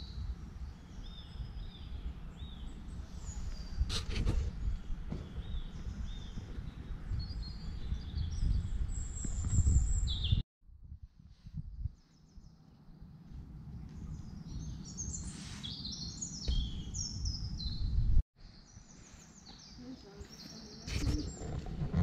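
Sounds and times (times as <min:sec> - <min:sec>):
birds chirping and trilling: 0:00.0 - 0:10.4, 0:13.7 - 0:22.0.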